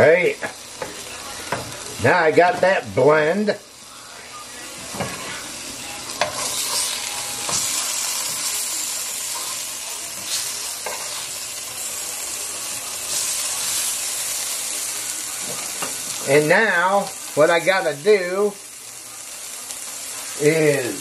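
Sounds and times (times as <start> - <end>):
soup sizzling hiss: 0.0 - 21.0.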